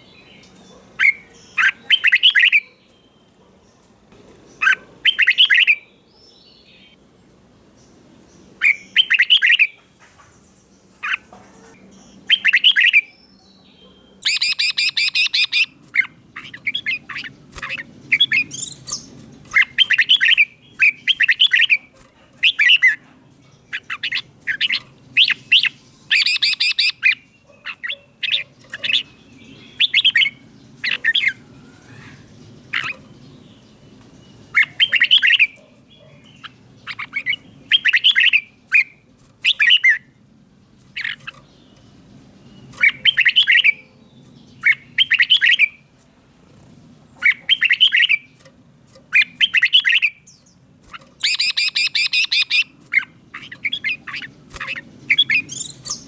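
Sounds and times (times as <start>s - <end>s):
harsh rapid bird chatter: 0.0s - 5.9s, 7.6s - 56.0s
bird singing warbled phrases: 0.0s - 56.0s.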